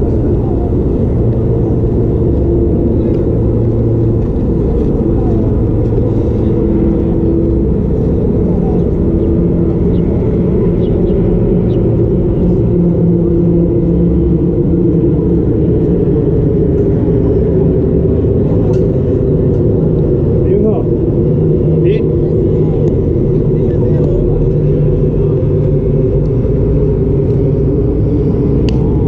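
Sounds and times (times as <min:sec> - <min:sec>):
constant hum: 0:00.0 - 0:29.0
road traffic rumble: 0:00.0 - 0:29.0.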